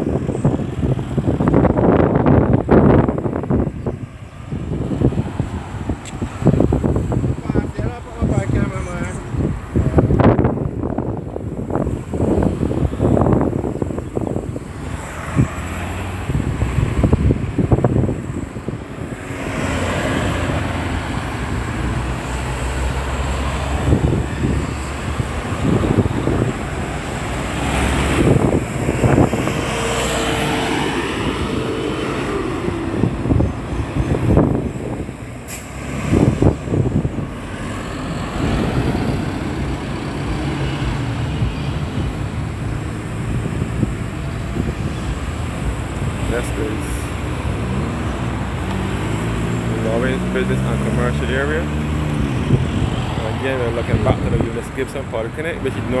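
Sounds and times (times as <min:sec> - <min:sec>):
steady traffic rumble: 0:00.0 - 0:56.0
vehicles passing: 0:00.0 - 0:56.0.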